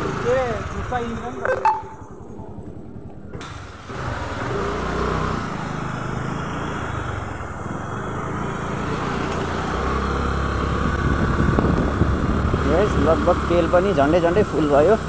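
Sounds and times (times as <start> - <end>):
motor scooter engine running: 0.0 - 3.1, 3.9 - 15.0
road and wind noise: 0.0 - 15.0.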